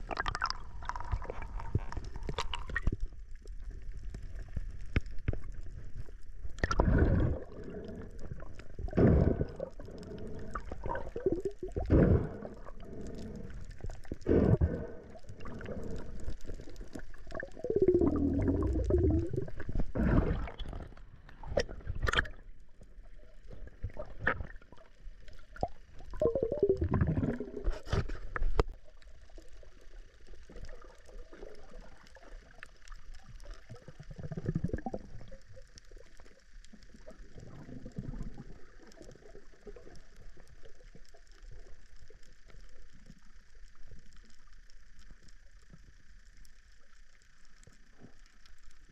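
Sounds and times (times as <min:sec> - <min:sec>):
underwater gurgling rushing water: 0:00.0 - 0:45.3.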